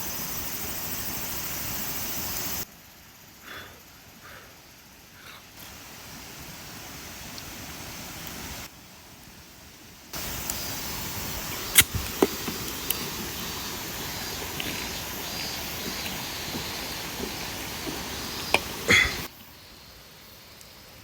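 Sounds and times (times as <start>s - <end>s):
campfire hissing and crackling: 0.0s - 21.0s.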